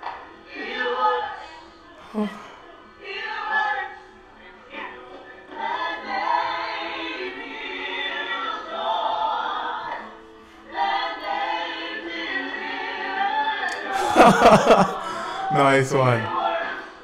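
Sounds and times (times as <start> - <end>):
group singing together: 0.0 - 17.0.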